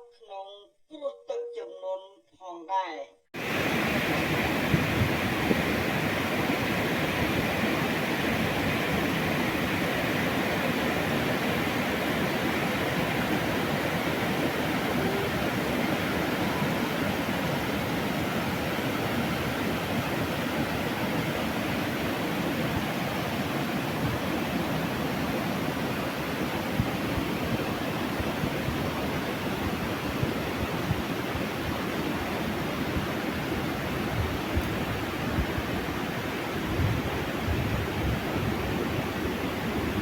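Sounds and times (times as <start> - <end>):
floodwater rushing: 3.4 - 40.0.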